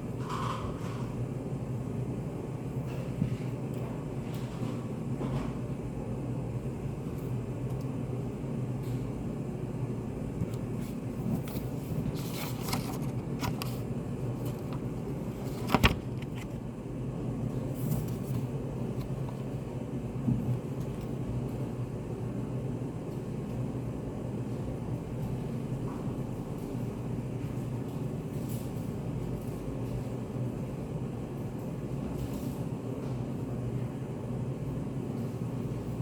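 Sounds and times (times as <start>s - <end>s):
low hum and hiss: 0.0s - 36.0s.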